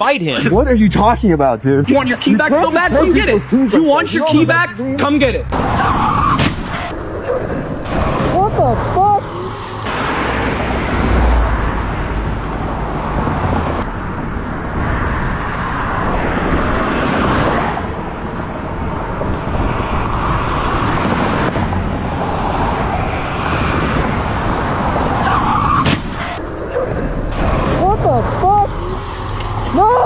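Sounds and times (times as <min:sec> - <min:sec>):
moving vehicle rushing noise: 0:00.6 - 0:30.0.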